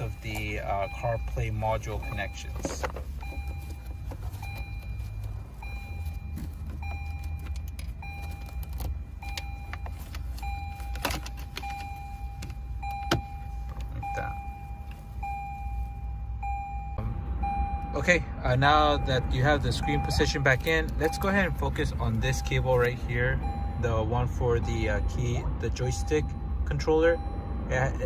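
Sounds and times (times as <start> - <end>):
car warning chime: 0.0 - 28.0.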